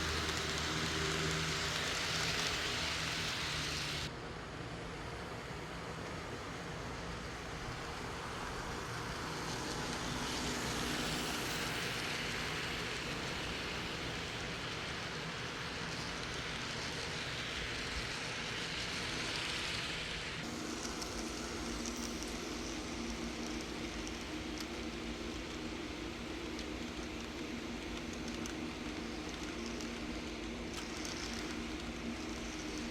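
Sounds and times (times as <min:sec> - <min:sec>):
model train wheels and motor hiss: 0:00.0 - 0:32.9.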